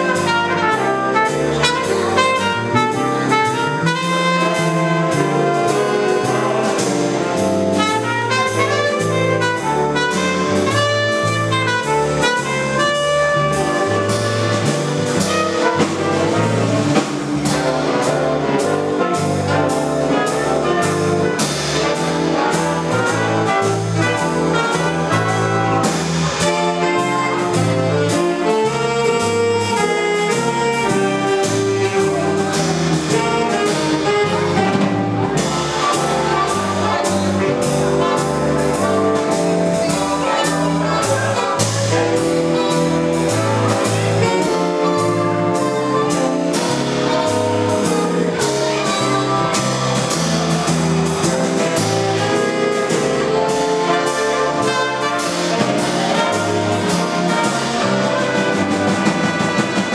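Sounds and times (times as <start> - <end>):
bass line: 0.0 - 59.9
saxophones and trumpets: 0.0 - 59.9
steady drum beat: 0.0 - 59.9.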